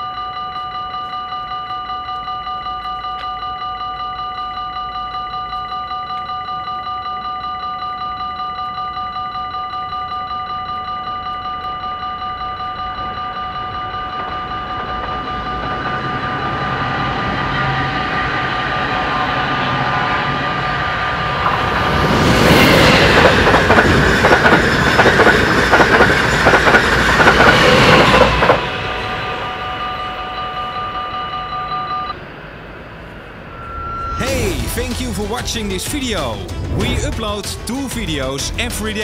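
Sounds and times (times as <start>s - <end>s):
level crossing bells ringing: 0.0s - 32.3s, 33.0s - 36.5s.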